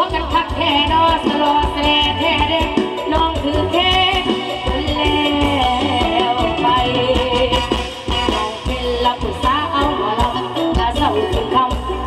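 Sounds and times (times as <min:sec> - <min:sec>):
amplified live band: 0:00.0 - 0:12.0
steady drum beat: 0:00.0 - 0:12.0
woman singing into microphone: 0:00.0 - 0:12.0.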